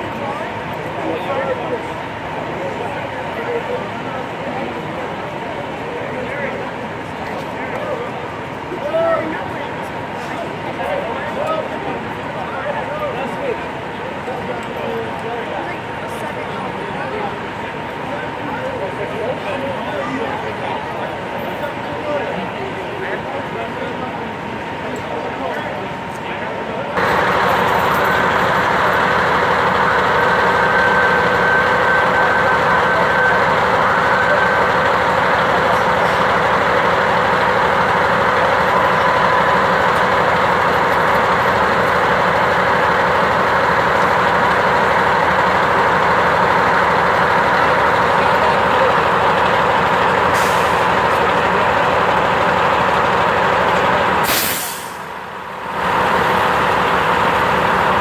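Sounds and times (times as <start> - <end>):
fire truck engine running: 0.0 - 58.0.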